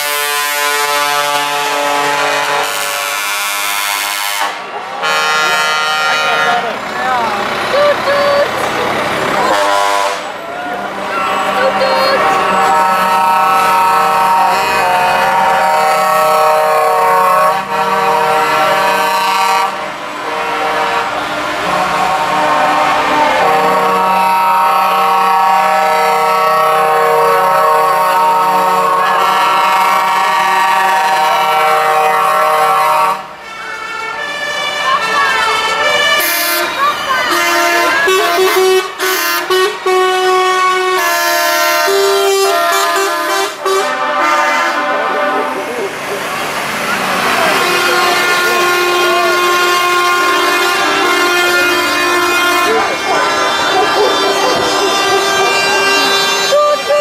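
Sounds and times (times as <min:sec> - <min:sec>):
truck air horns blowing: 0:00.0 - 0:57.0
truck engine noise: 0:00.0 - 0:57.0.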